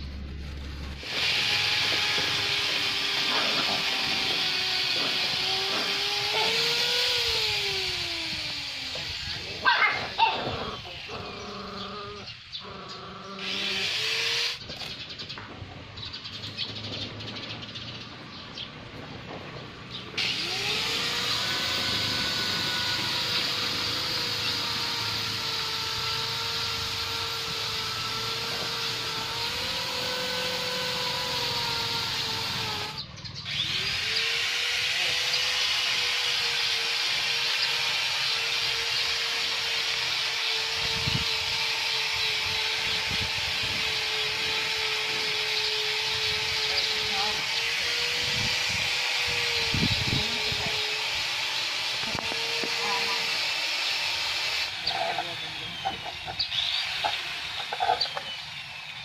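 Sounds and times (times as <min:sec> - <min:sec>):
small motor whining: 0:00.0 - 0:15.4, 0:16.0 - 0:59.0.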